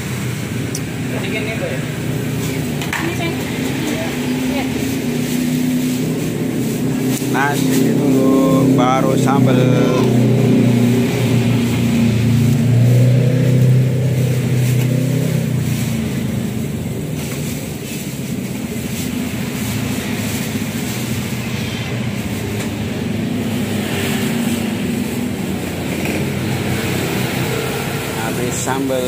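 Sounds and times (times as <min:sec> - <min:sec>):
low motor rumble: 0:00.0 - 0:29.0.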